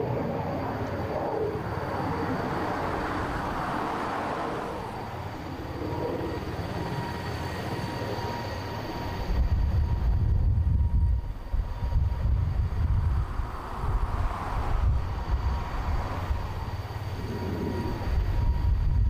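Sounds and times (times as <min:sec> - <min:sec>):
faint turbine whine: 0:00.0 - 0:19.0
helicopter rumble: 0:00.0 - 0:19.0.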